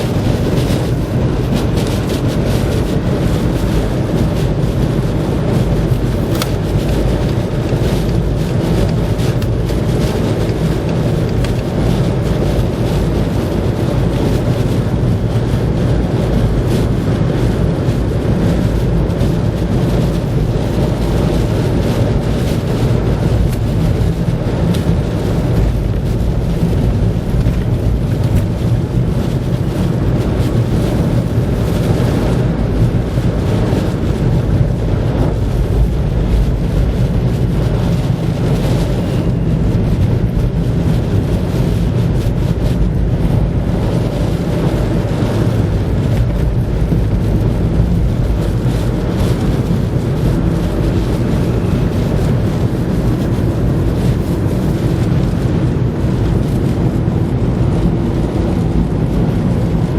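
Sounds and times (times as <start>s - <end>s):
wind blowing across microphone: 0.0s - 59.9s.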